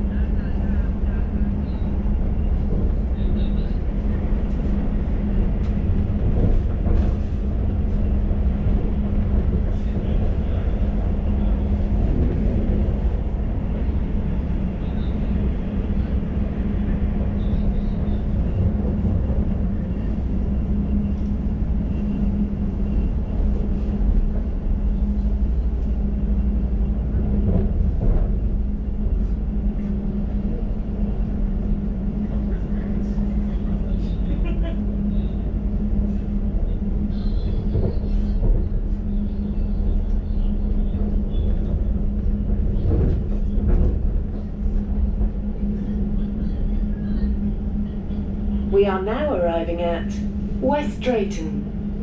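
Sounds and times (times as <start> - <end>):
constant hum: 0.0 - 52.0
train wheels rumbling on rail: 0.0 - 52.0.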